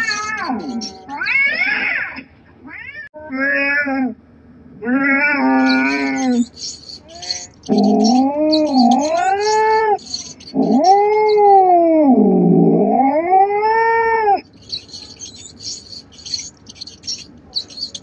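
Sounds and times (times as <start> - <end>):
cat yowling: 0.0 - 4.0, 4.8 - 18.0.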